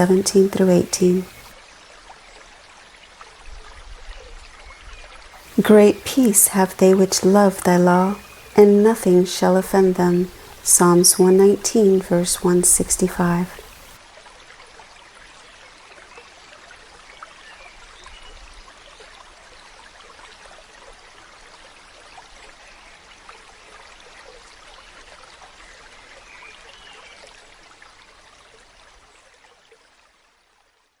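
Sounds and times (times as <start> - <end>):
stream water trickling: 0.0 - 31.0.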